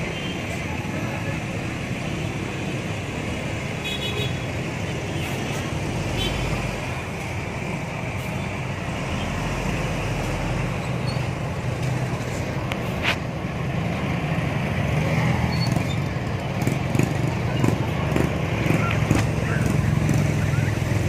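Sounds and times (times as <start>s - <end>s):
bus engines droning: 0.0s - 21.0s.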